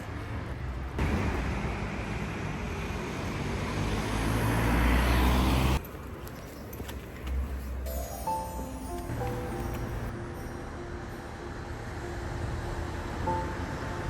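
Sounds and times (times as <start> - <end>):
road vehicle rumble: 0.0 - 14.0.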